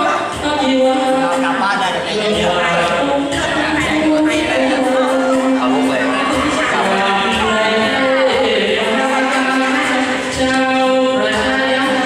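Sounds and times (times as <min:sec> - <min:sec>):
person singing long bending notes: 0:00.0 - 0:12.0.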